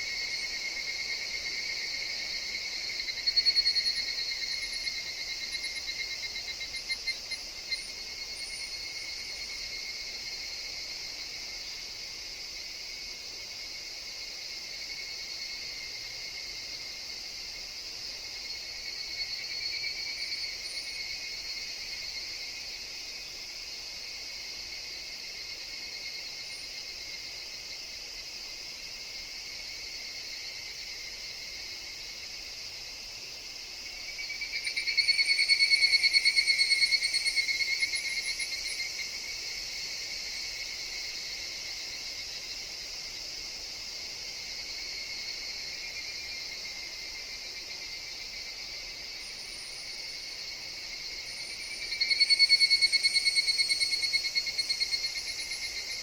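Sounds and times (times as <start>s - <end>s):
cicadas chorus: 0.0s - 56.0s
nearby cicada pulsing call: 0.0s - 56.0s.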